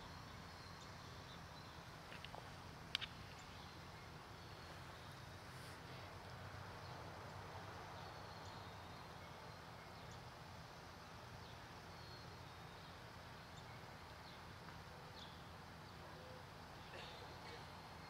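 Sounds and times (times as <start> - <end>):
faint bird chirps: 0.0 - 6.2, 6.8 - 18.0
low background hiss and rumble: 0.0 - 18.0.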